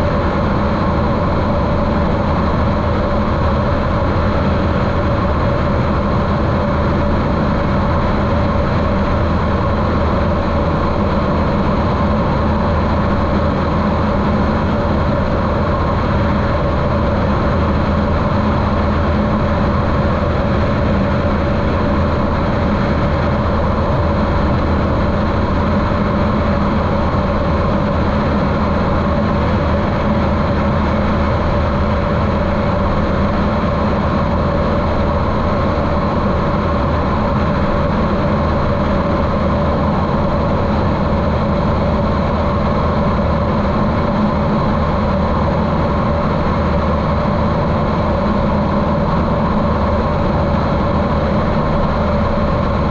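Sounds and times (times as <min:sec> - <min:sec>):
muffled aircraft engine and propeller: 0:00.0 - 0:52.9.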